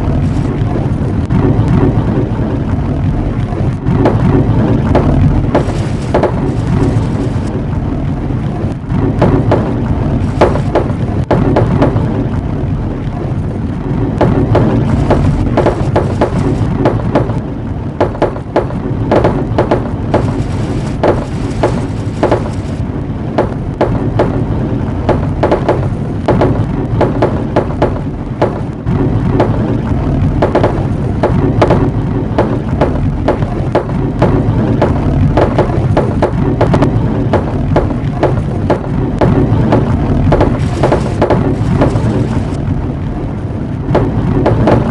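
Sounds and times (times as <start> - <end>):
marbles rolling rumble: 0.0 - 43.0.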